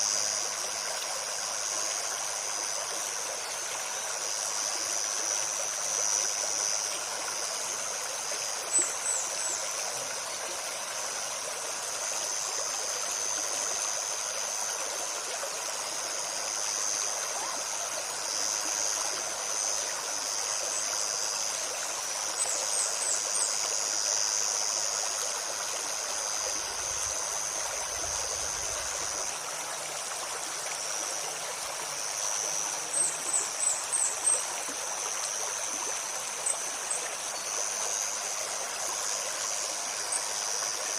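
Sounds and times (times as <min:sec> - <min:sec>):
high insect buzz: 0:00.0 - 0:40.9
stream babbling over stones: 0:00.0 - 0:40.9.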